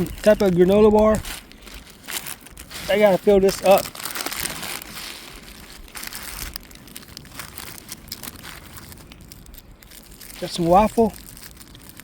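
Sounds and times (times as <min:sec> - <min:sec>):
plastic wrappers rustling: 0:00.0 - 0:12.0.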